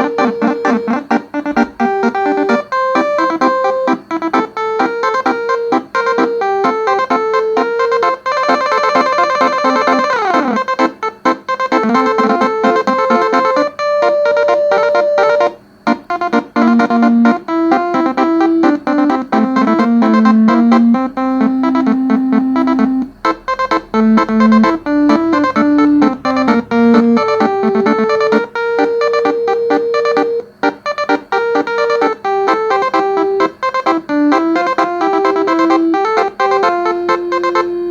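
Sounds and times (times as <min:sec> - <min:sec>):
bus horns playing a tune: 0:00.0 - 0:37.9.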